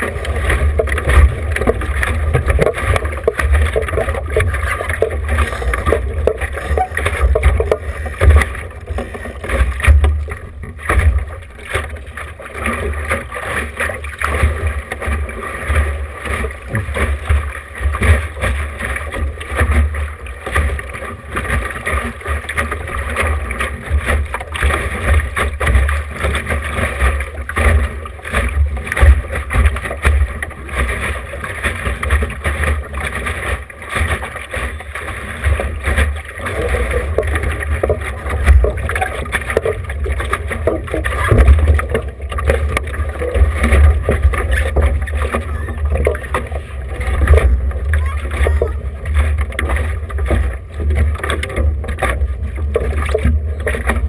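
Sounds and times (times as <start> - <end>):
water splashing against hull: 0.0 - 54.0.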